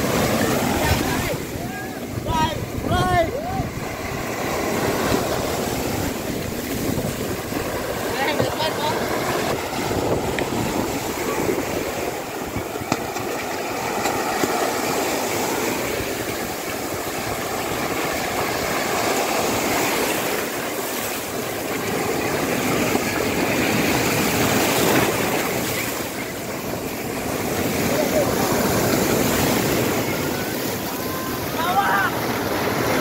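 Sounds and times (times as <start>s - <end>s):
waves breaking on shore: 0.0s - 33.0s.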